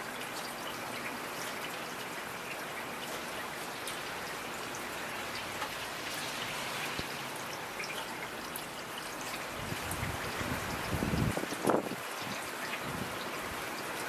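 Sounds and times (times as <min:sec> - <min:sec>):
steady rain falling: 0:00.0 - 0:14.0
raindrops ticking: 0:00.2 - 0:14.0.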